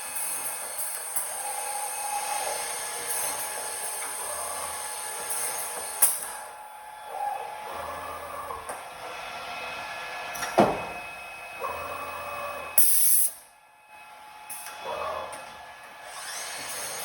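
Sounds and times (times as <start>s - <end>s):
machine motors whirring: 0.0s - 13.2s, 14.0s - 17.0s
steady mechanical hum: 0.0s - 17.0s.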